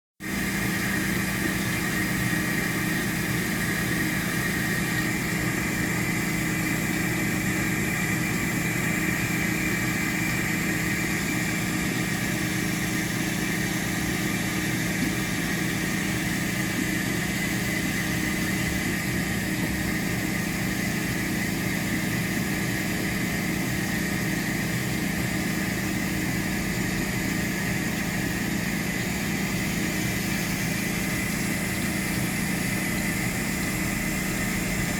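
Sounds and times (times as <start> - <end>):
washing machine humming: 0.2 - 34.9.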